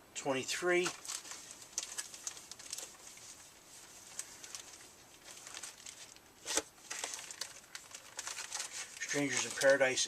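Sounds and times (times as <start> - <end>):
comic books rustling: 0.4 - 10.0.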